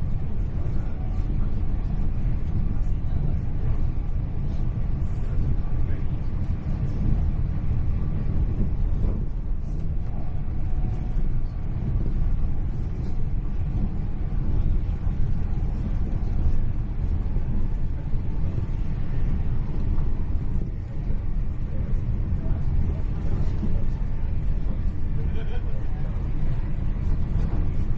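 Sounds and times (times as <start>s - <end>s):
train running at speed: 0.0s - 27.9s.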